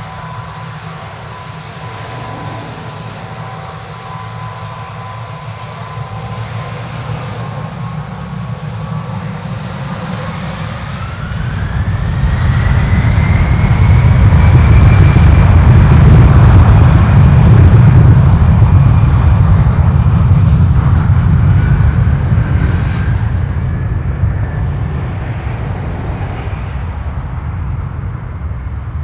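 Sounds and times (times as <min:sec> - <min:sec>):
aircraft engine rumble: 0:00.0 - 0:29.0
aircraft engine whine: 0:00.0 - 0:29.0.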